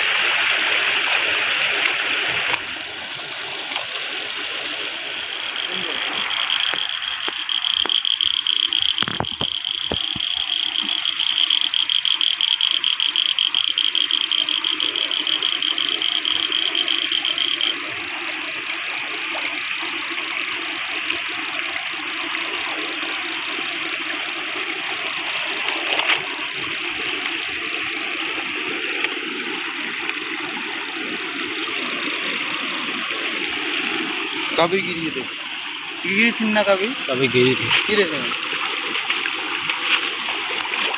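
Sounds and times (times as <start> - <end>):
water gushing and splashing: 0.0 - 40.9.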